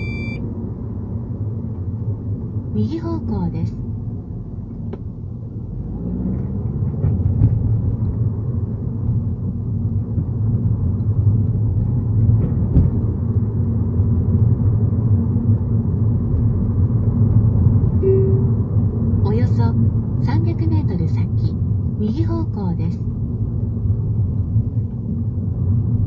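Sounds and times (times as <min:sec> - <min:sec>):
car driving rumble from inside: 0:00.0 - 0:26.0.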